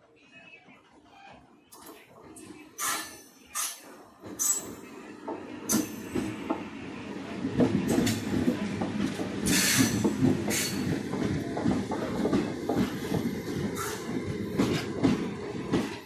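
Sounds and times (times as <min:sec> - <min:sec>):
train rumbling on track: 0:00.8 - 0:16.0.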